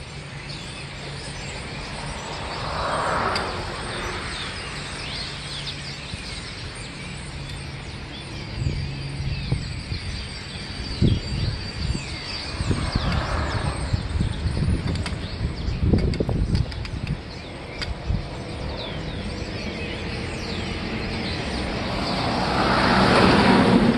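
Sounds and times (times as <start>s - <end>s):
flock of birds chirping: 0.0s - 23.9s.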